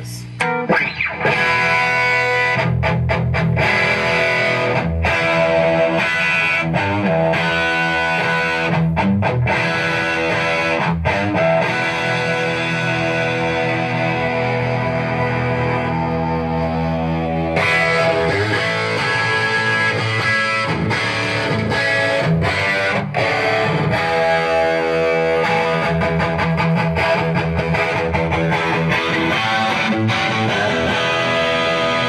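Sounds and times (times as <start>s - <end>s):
distorted electric guitar chords: 0.0s - 32.0s.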